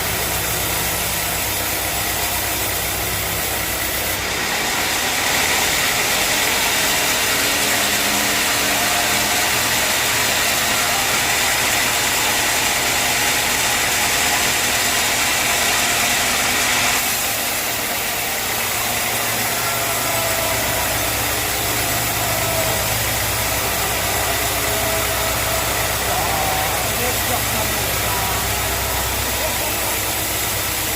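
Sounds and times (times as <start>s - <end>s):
high hiss of sawing: 0.0s - 30.9s
sawmill machine drone: 0.0s - 30.9s.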